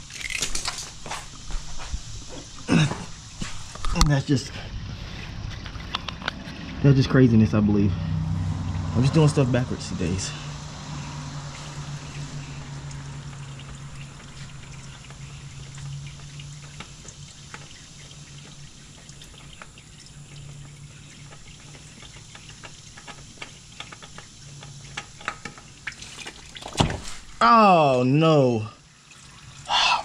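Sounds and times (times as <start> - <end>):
low background hum: 0.0 - 30.0
oil trickling and dripping: 0.0 - 30.0.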